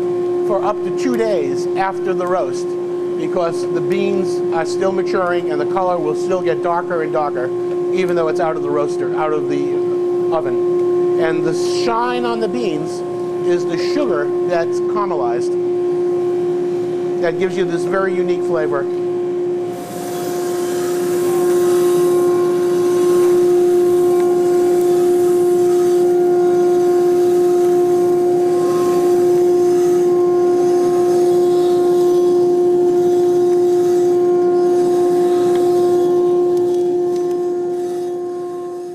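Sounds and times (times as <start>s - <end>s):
fan and motor hum: 0.0s - 38.9s.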